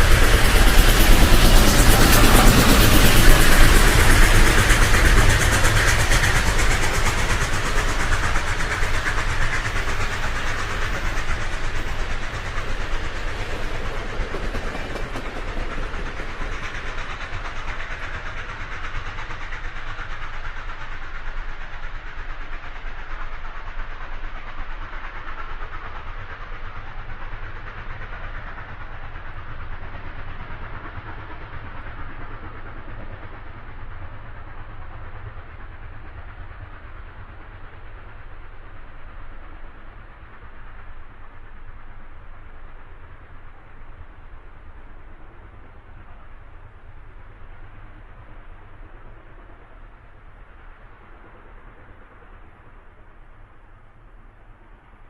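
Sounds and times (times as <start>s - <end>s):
train running along track: 0.0s - 55.0s.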